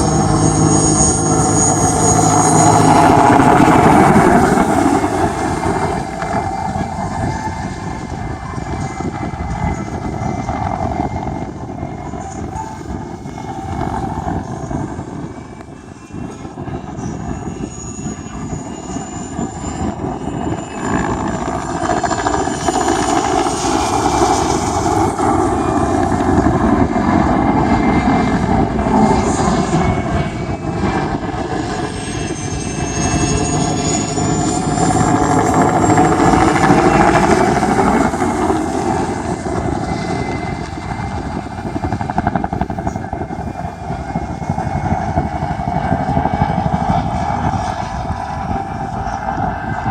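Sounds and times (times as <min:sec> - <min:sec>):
helicopter rotor rumble: 0:00.0 - 0:49.9
high turbine whine: 0:00.0 - 0:49.9.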